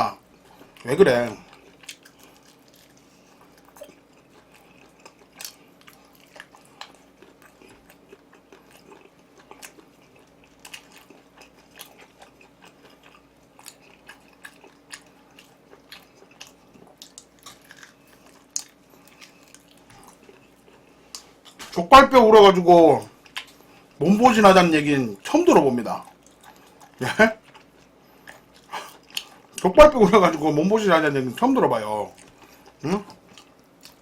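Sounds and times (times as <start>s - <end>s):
faint steady hum: 0.0s - 34.0s
chewing and lip smacking: 0.3s - 21.8s, 23.0s - 24.0s, 25.2s - 29.7s, 32.1s - 34.0s.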